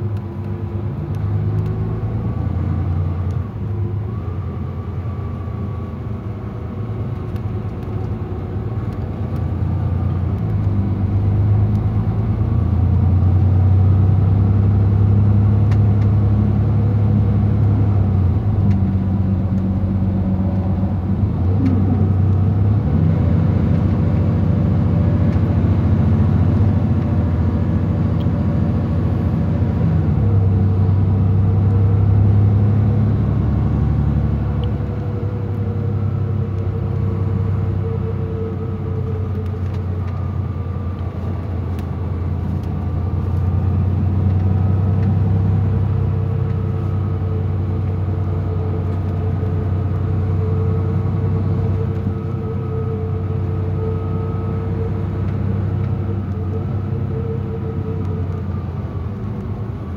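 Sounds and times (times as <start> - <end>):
coach engine drone: 0.0 - 59.9.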